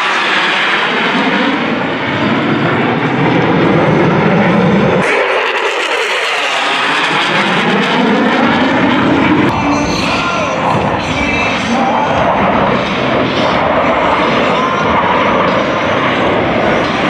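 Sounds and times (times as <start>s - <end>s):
jet roar flying past: 0.0s - 17.0s.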